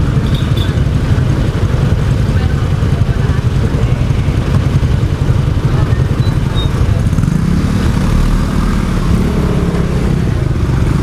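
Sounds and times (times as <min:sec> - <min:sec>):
motor scooter engine drone: 0:00.0 - 0:11.0
road and wind noise: 0:00.0 - 0:11.0.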